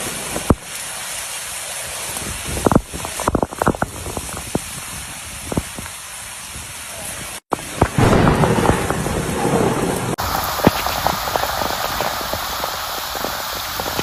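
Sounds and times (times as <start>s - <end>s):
heavy rain: 0.0s - 14.0s
rushing floodwater: 0.0s - 14.0s.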